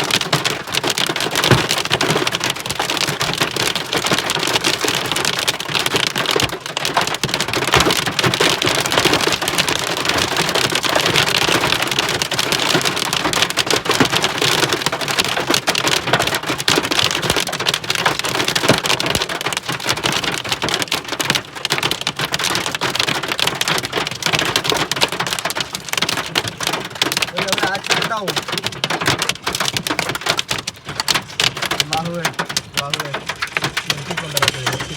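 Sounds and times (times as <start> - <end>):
heavy rain and hail pelting: 0.0 - 34.9.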